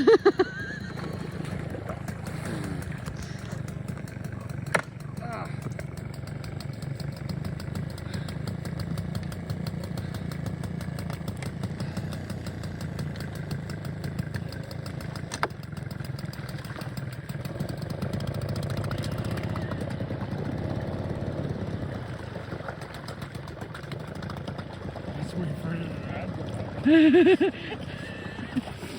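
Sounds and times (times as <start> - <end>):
outboard motor running: 0.0 - 28.9.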